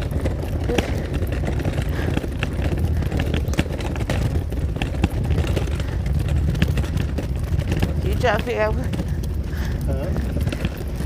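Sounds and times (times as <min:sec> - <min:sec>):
footsteps on pavement: 0:00.0 - 0:11.0
low rumble: 0:00.0 - 0:11.0.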